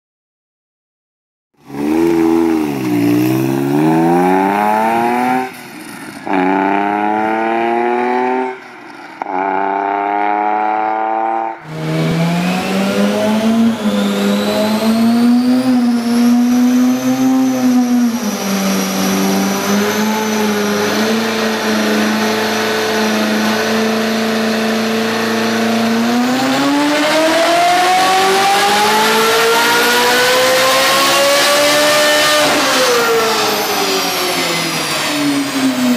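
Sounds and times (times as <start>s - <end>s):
car engine accelerating hard: 1.6s - 35.9s.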